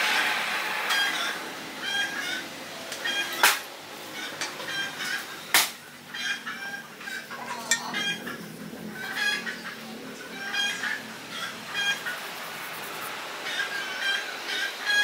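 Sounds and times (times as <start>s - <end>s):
chickens clucking: 1.0s - 15.0s.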